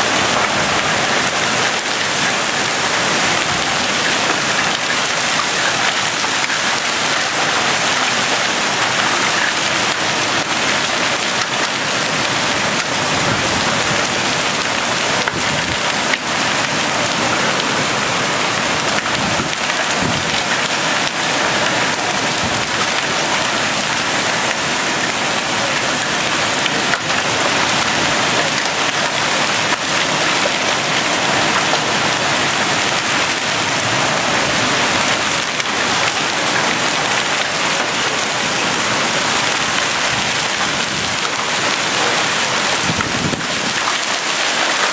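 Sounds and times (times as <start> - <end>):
heavy rain on window screen: 0.0 - 44.9.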